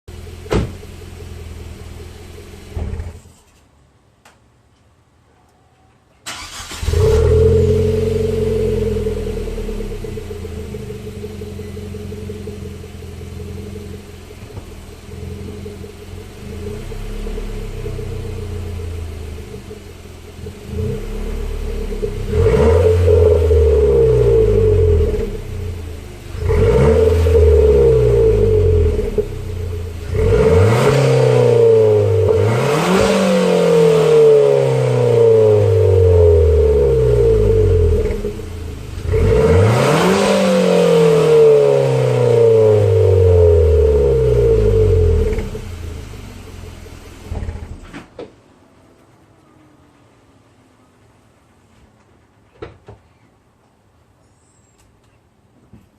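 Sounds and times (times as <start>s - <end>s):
car engine starting and revving: 0.2s - 3.3s, 6.3s - 48.1s.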